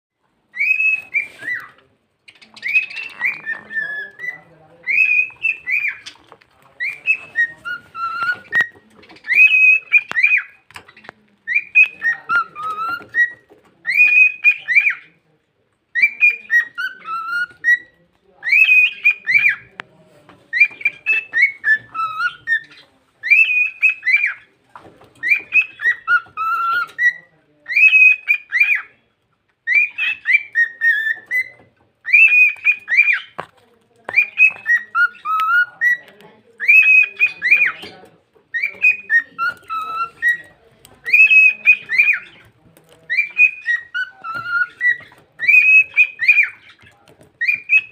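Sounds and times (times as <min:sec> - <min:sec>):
cockatiel whistling and chattering: 0:00.5 - 0:15.2, 0:15.9 - 0:19.8, 0:20.5 - 0:29.0, 0:29.6 - 0:33.4, 0:34.0 - 0:47.9.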